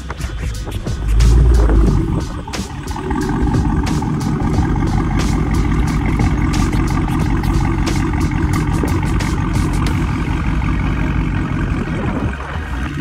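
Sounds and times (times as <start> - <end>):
loud vehicle engine running: 0.0 - 13.0.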